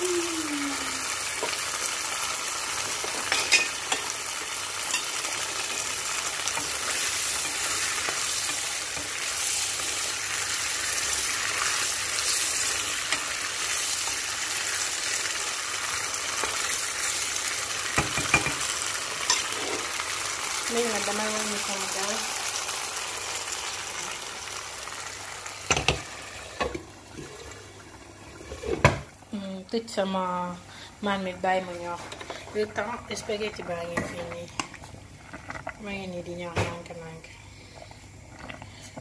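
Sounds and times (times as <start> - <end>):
sauce sizzling in a frying pan: 0.0 - 39.0.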